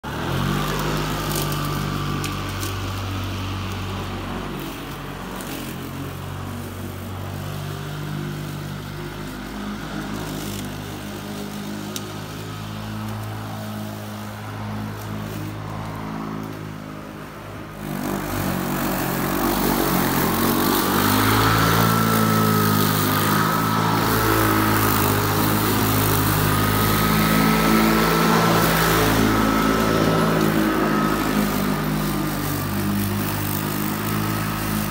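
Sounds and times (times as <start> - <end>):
electric lawn mower cutting grass: 0.0 - 34.9.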